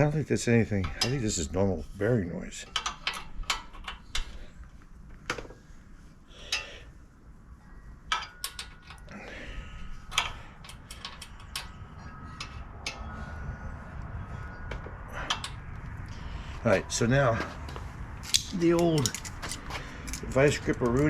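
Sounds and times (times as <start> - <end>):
faint steady whine: 0.0 - 21.0
low steady rumble: 0.0 - 21.0.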